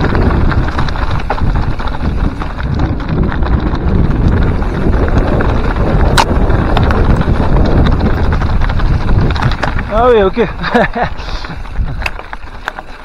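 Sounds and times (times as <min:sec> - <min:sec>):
bike clattering: 0:00.0 - 0:13.0
tyres crunching over stones: 0:00.0 - 0:13.0
wind buffeting microphone: 0:00.0 - 0:13.0.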